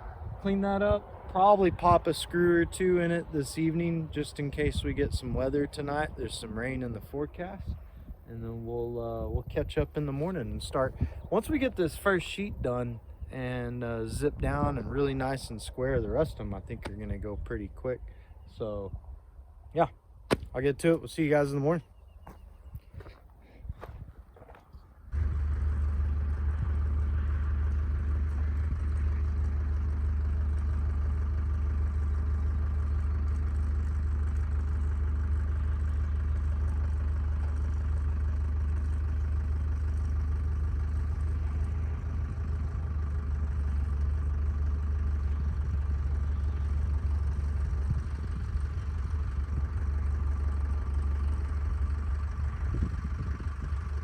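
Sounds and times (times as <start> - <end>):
engine idling with deep hum: 0.0 - 19.2, 20.6 - 54.0.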